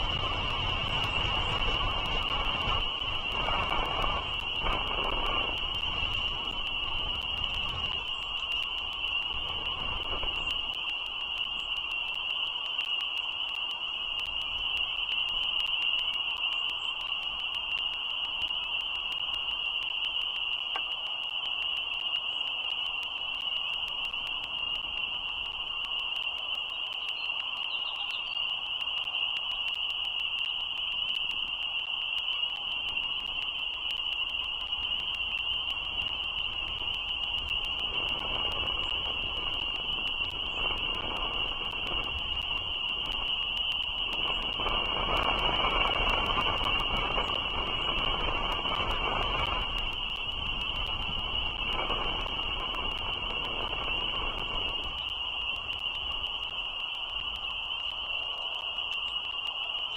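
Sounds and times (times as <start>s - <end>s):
frog chorus peeping: 0.0s - 59.9s.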